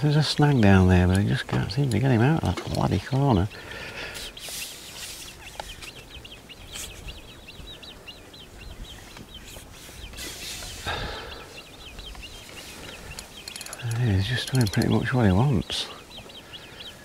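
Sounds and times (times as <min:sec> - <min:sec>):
songbird twittering: 0:00.0 - 0:17.0.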